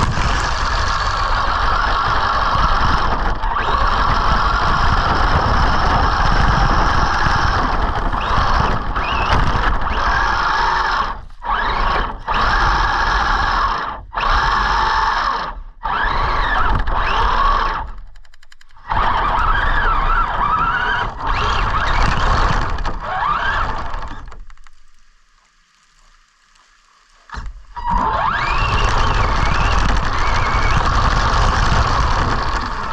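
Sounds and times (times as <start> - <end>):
electric motor whine: 0.0 - 18.1, 18.8 - 24.4, 27.3 - 32.9.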